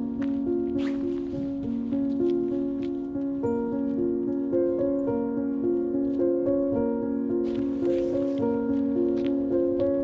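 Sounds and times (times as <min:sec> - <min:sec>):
background music of held notes: 0:00.0 - 0:10.0.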